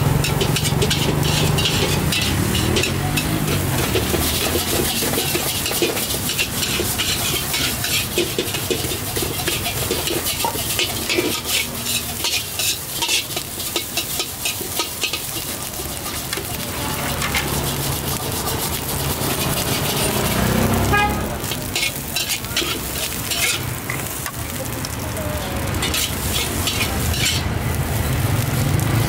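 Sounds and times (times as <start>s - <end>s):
metal spatula scraping a wok: 0.0s - 25.0s, 25.6s - 28.1s
food sizzling: 0.0s - 29.0s.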